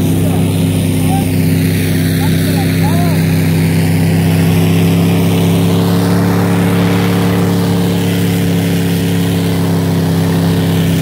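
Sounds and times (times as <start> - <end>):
snowcat engine droning: 0.0 - 11.0.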